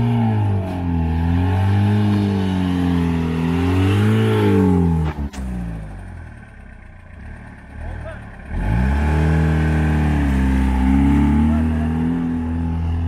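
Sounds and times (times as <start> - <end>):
truck engine revving: 0.0 - 6.1, 7.2 - 13.0.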